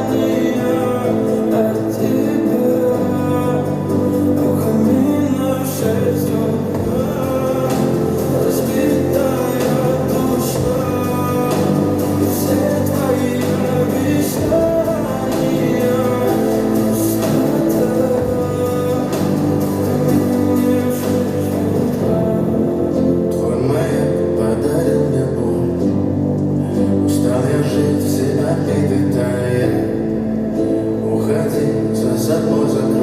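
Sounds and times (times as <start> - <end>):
pop song with singing: 0.0 - 33.0.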